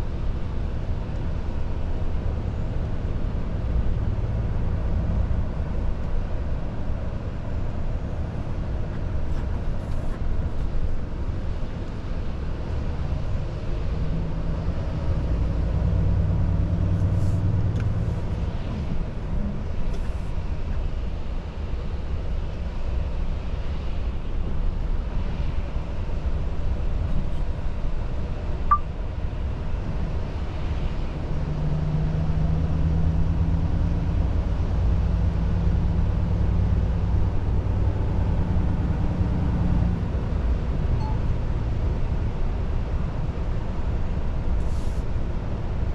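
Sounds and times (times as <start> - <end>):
truck engine and road drone: 0.0 - 45.9.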